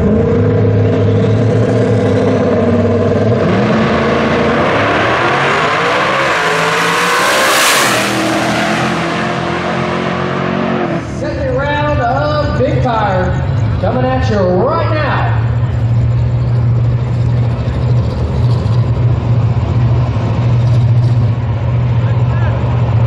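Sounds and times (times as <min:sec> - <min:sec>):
drag racing car engines: 0:00.0 - 0:23.0.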